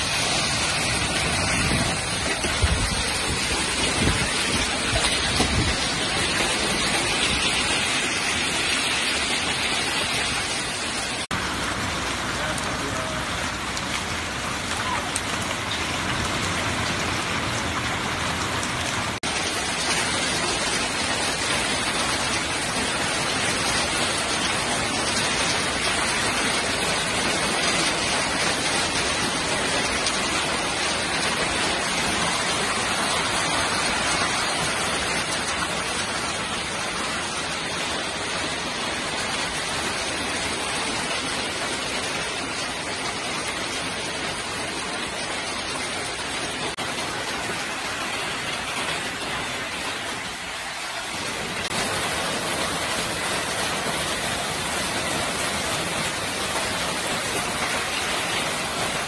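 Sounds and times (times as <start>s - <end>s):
hail and rain pelting: 0.0s - 59.0s.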